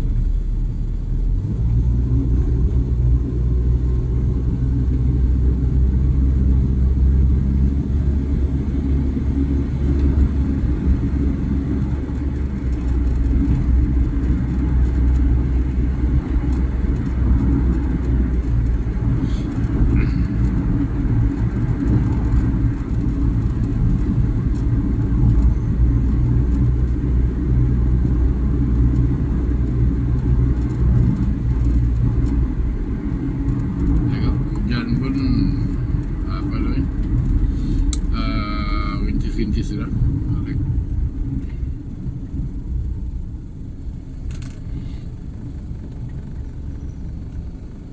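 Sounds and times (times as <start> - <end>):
car engine hum: 0.0 - 47.9
tyre noise on road: 0.0 - 47.9.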